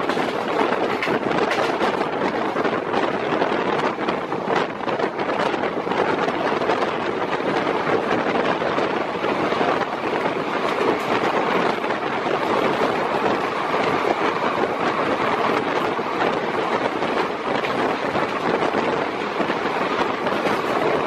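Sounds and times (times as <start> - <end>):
freight train wagons rushing: 0.0 - 21.0
wind buffeting microphone: 0.0 - 21.0.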